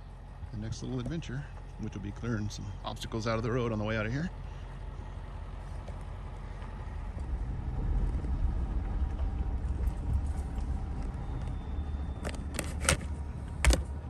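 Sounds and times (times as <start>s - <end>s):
vehicle rumbling on rough road: 0.0s - 14.0s.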